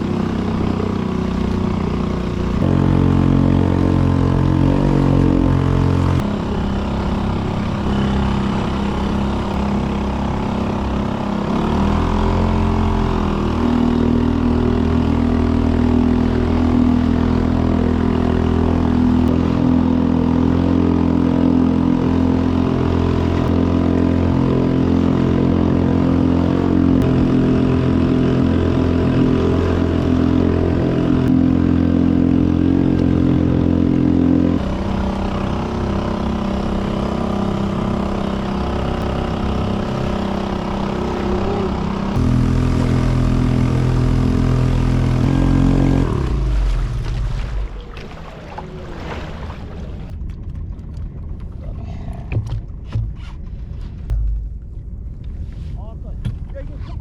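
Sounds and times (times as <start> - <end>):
outboard motor running: 0.0 - 55.6.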